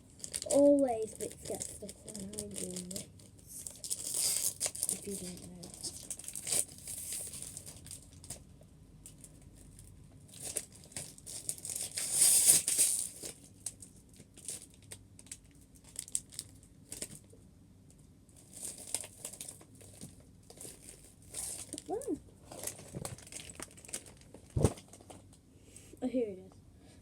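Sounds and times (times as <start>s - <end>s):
plastic crinkling and rustling: 0.0s - 17.3s, 18.4s - 25.4s.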